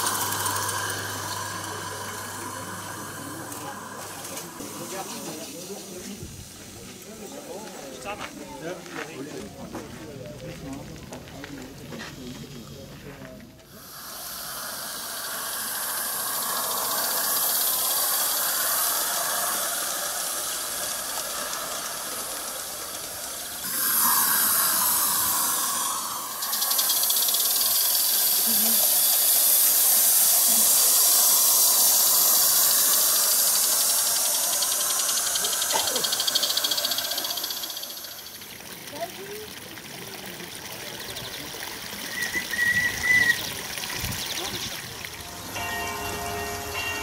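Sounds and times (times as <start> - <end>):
steam hissing: 0.0 - 10.6, 13.6 - 47.0
wheels rattling on rail: 0.0 - 47.0.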